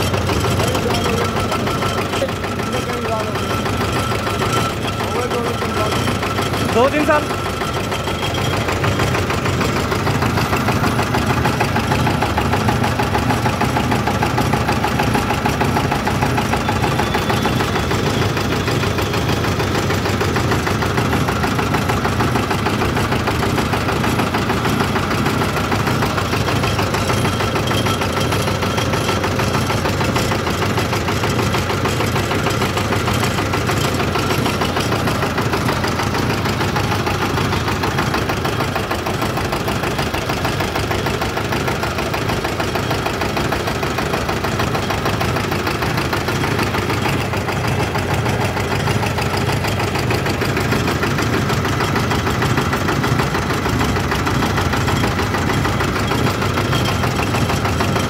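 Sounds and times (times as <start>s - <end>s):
extruding machine engine running: 0.0s - 58.0s.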